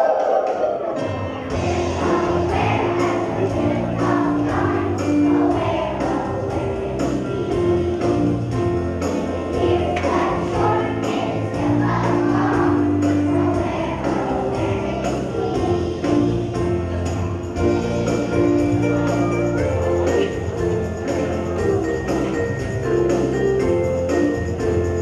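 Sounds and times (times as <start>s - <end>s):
children's choir singing: 0.0s - 25.0s
instrumental accompaniment: 0.4s - 25.0s.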